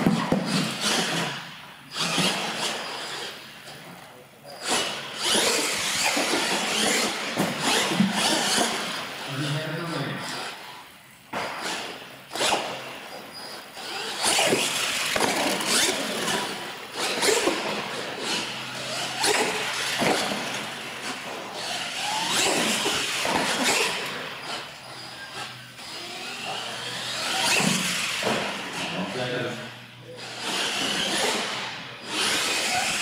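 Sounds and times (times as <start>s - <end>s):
toy truck motor whining: 0.1s - 10.8s, 11.4s - 33.0s.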